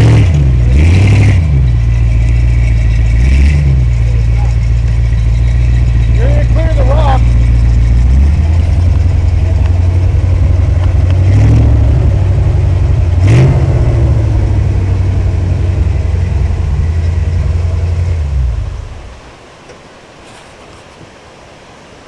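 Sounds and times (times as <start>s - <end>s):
engine revving: 0.0s - 19.2s
truck engine under load: 0.0s - 19.3s.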